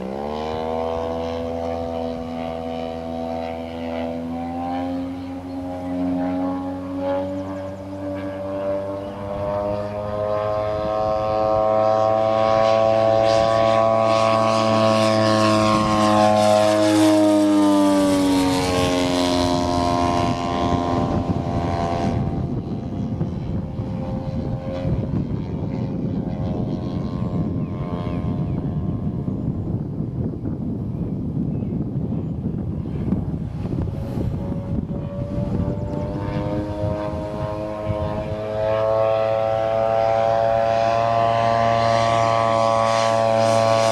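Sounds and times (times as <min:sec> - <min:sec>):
model plane engine flying past: 0:00.0 - 0:43.9.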